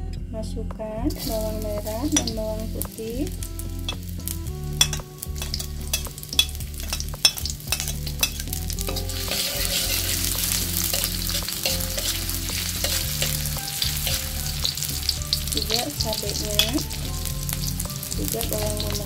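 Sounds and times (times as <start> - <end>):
shallots sizzling in hot oil: 1.1 - 19.0
metal spatula scraping wok: 1.2 - 19.0.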